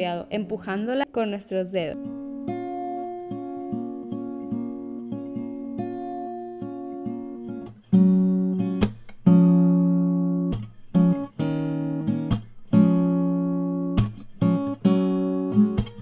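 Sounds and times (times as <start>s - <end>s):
acoustic guitar strumming: 2.0s - 16.0s.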